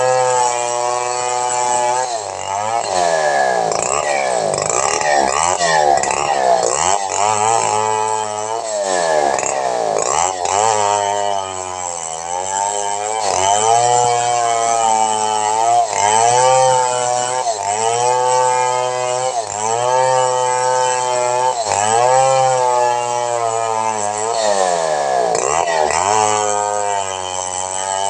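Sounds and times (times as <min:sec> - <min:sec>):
chainsaw cutting through log: 0:00.0 - 0:28.0.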